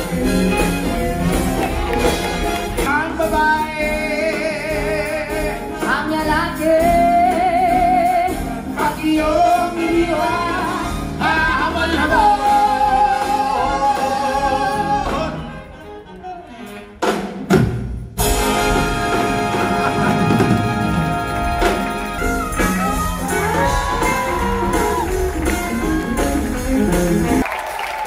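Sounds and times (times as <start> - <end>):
live band music: 0.0 - 28.0.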